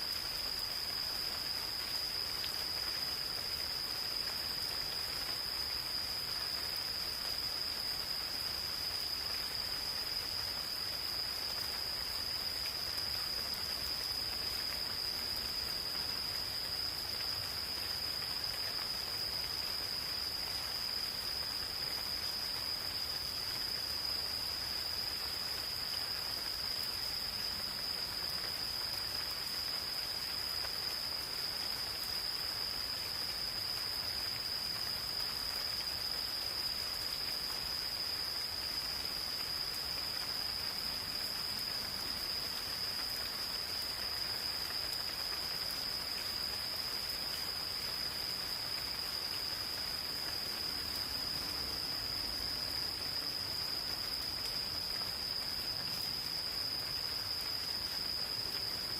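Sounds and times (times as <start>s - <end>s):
insects trilling: 0.0s - 58.9s
rain on foliage: 0.0s - 58.9s.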